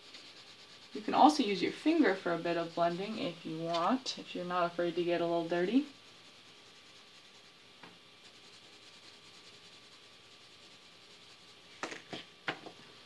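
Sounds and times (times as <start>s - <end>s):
pencil scratching on paper: 0.0s - 11.9s.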